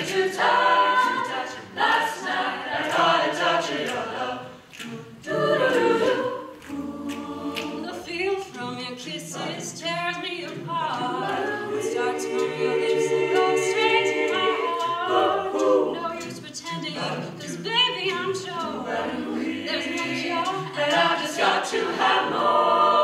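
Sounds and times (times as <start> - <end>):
group singing in harmony: 0.0 - 23.0.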